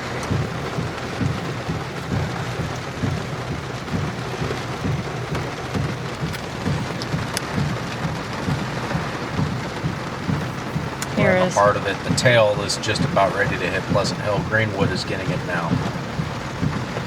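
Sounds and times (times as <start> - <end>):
heavy rain on a vehicle: 0.0 - 17.0
low uneven rumble: 0.0 - 17.0
sharp ticks: 0.1 - 17.0.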